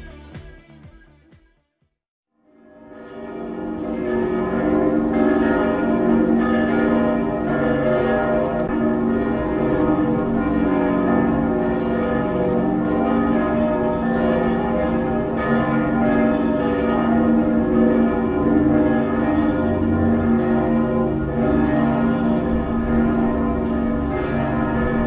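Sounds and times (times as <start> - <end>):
ringing bells: 2.5 - 25.0.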